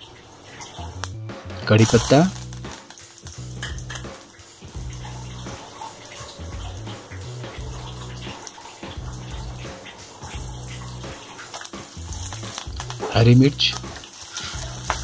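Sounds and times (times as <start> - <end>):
leaves and chillies sizzling in oil: 0.0 - 15.0.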